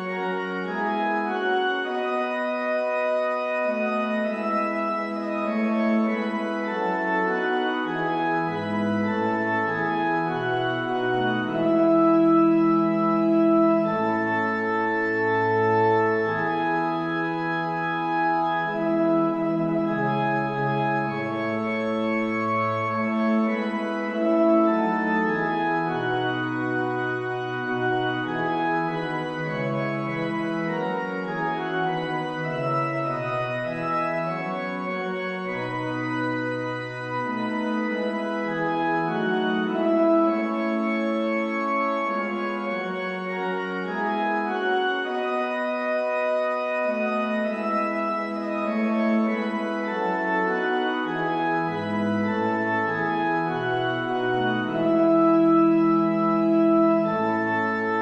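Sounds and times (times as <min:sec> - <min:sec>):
organ playing slow chords: 0:00.0 - 0:58.0.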